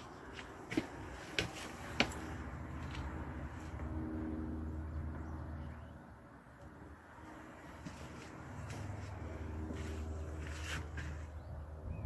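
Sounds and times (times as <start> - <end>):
vehicle engine passing by: 1.0 - 6.2, 6.8 - 12.0.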